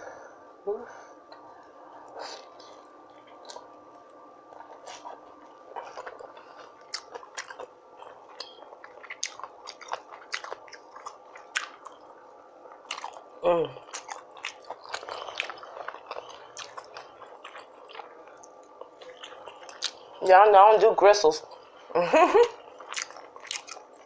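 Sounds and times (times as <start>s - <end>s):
person chewing with wet smacking: 1.3s - 20.4s, 22.5s - 24.0s.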